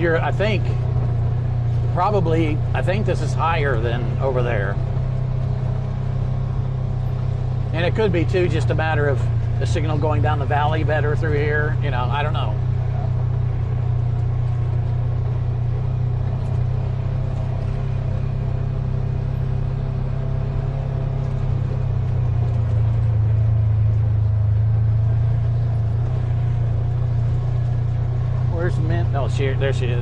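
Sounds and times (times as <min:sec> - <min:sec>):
dune buggy engine running: 0:00.0 - 0:30.0.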